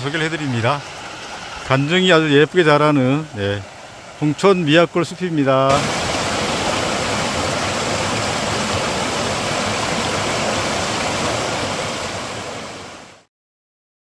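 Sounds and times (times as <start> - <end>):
mountain stream rushing: 0.0 - 13.3.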